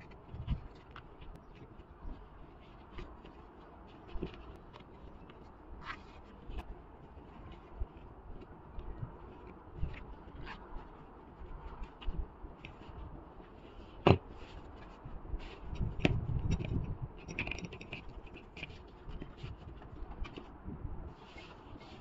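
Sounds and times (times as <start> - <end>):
gloved hands rustling and scraping: 0.0 - 22.0.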